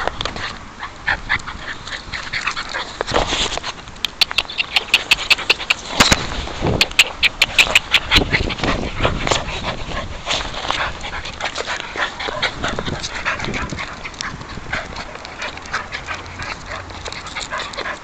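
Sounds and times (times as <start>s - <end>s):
dogs scuffling and playing: 0.0s - 18.0s.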